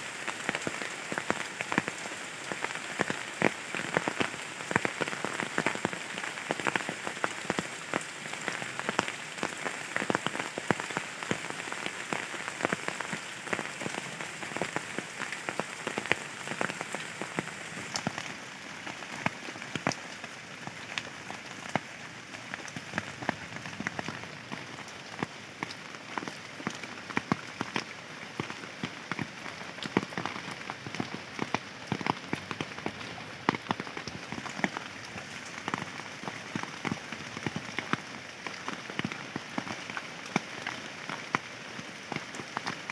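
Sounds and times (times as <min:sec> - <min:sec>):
raindrops ticking close by: 0:00.0 - 0:42.9
steady rain hiss: 0:00.0 - 0:42.9.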